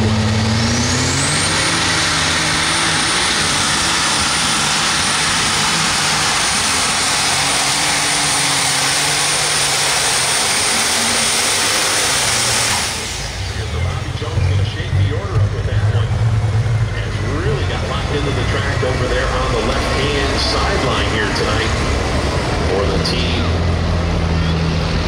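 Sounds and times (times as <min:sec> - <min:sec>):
tractor engine at full throttle: 0:00.0 - 0:25.0
turbo whine: 0:00.0 - 0:25.0.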